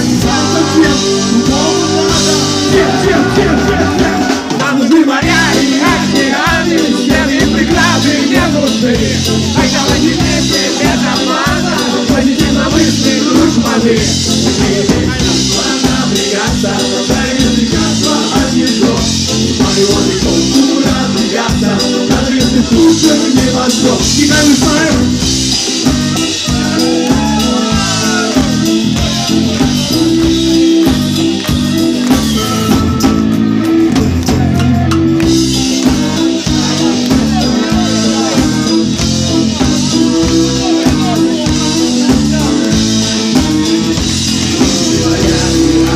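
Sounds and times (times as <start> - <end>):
live rock band with singing: 0.0 - 45.9.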